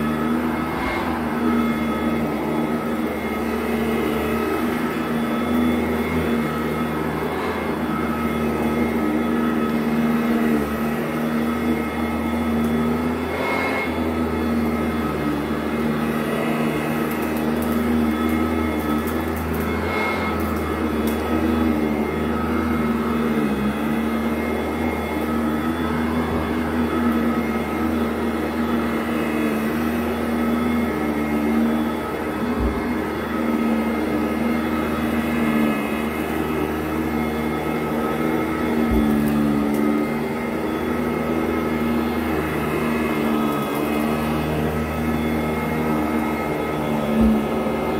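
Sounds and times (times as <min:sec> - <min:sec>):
vacuum cleaner motor hum and whine: 0:00.0 - 0:47.9.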